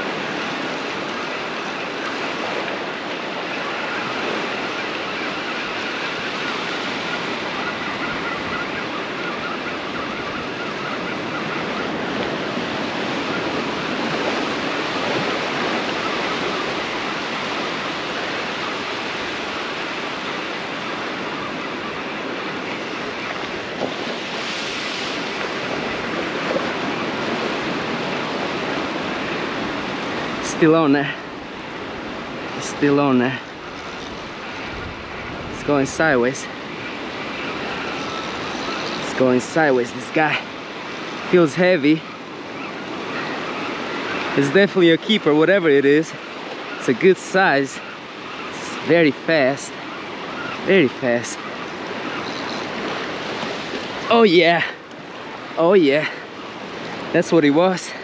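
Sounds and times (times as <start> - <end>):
ocean surf washing onto beach: 0.0 - 58.0.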